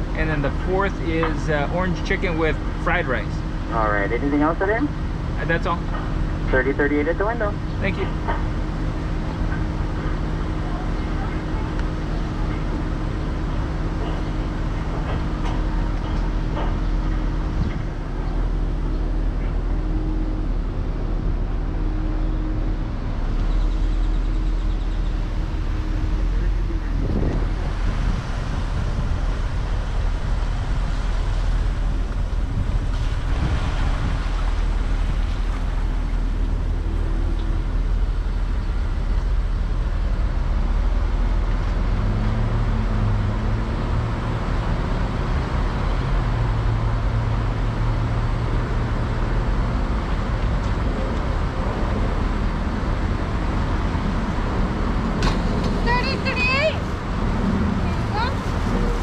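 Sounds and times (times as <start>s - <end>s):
vehicle engine humming at low speed: 0.0s - 59.0s.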